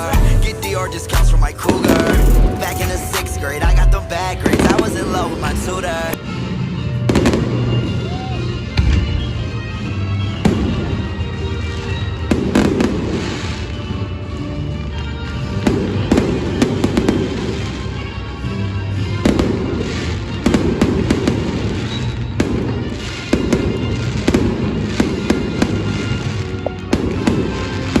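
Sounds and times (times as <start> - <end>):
fireworks cracking and popping: 0.0 - 18.1, 19.0 - 28.0.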